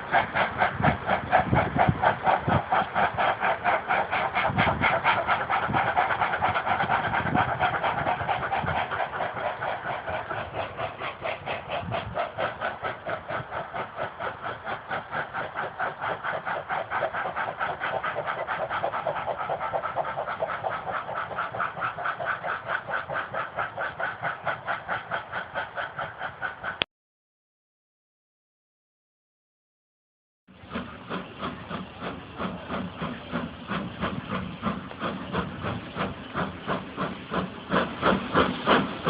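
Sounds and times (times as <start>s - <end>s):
steam locomotive exhaust beating: 0.0s - 26.8s, 30.5s - 39.0s.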